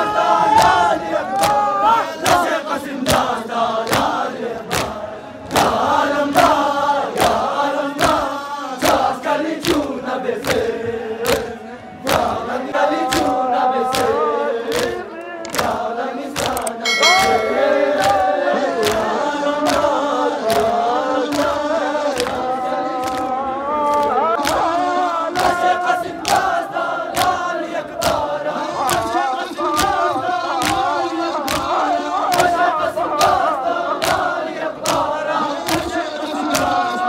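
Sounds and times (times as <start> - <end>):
crowd of men chanting: 0.0 - 37.0
rhythmic chest-beating: 0.6 - 37.0.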